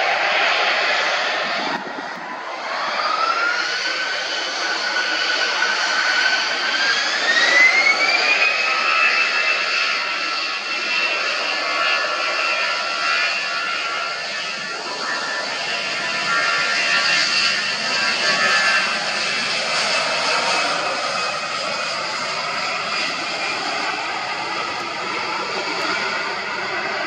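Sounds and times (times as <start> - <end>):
jet engines spooling up: 0.0 - 27.0.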